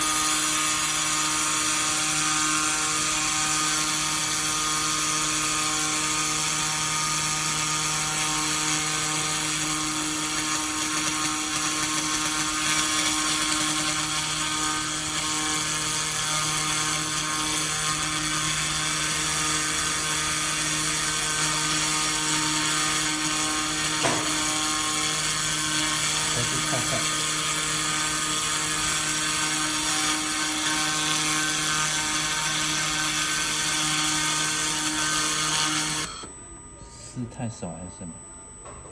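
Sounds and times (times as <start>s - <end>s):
welding machine humming and hissing: 0.0s - 36.3s.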